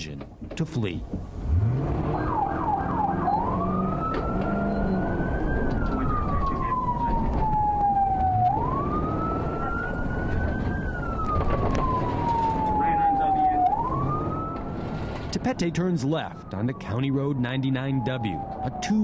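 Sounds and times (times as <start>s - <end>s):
car engine and road noise: 0.0s - 19.0s
police siren yelping and wailing: 1.7s - 19.0s.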